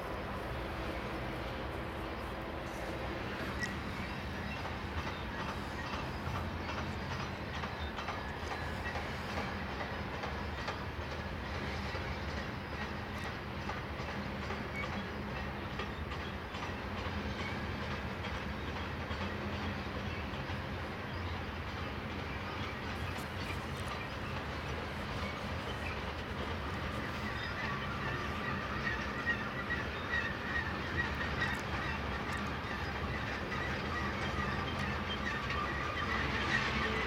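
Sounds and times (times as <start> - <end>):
low diesel locomotive drone: 0.0 - 37.0
train wheels clicking over rail joints: 0.0 - 37.0.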